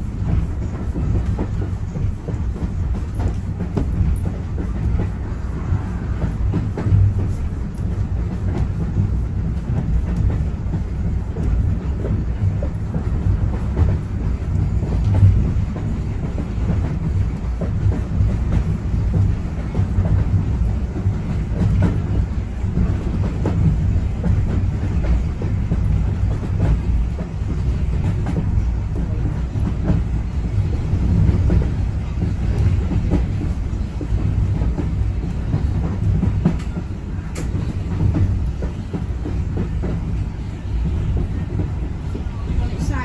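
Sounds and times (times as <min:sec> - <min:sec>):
train rumbling on track: 0:00.0 - 0:43.0.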